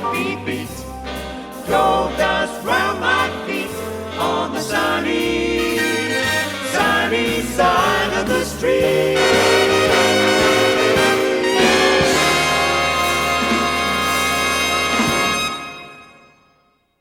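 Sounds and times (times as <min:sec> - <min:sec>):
swing band with brass: 0:00.0 - 0:16.3.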